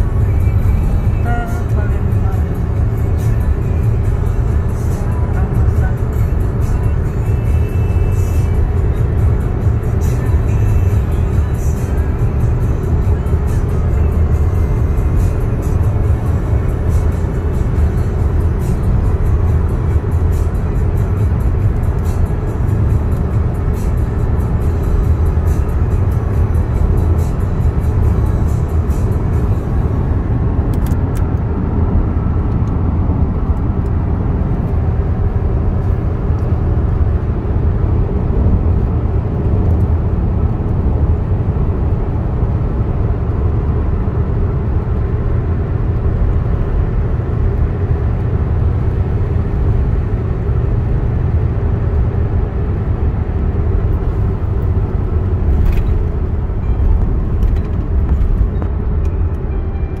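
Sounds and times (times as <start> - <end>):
car road and engine noise: 0.0 - 60.0.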